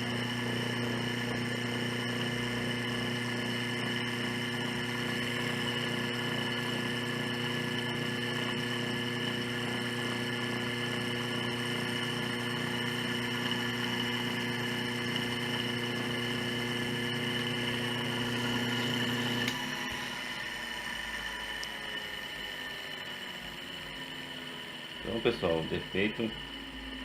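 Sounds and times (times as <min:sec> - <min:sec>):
motor humming with high whine: 0:00.0 - 0:27.0.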